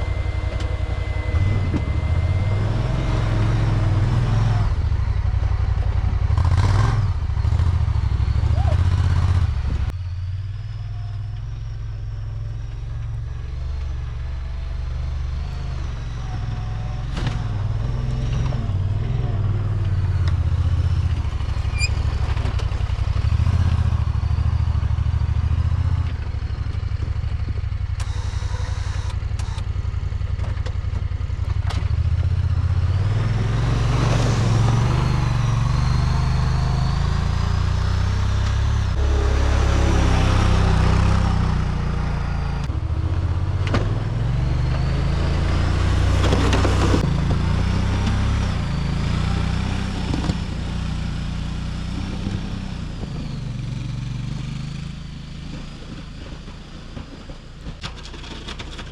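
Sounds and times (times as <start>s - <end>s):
truck engine under load: 0.0s - 58.9s.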